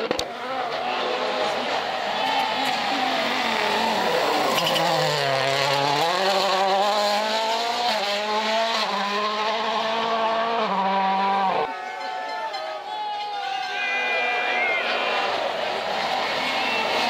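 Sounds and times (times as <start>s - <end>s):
rally car engine at high revs: 0.0s - 11.7s, 14.9s - 17.0s.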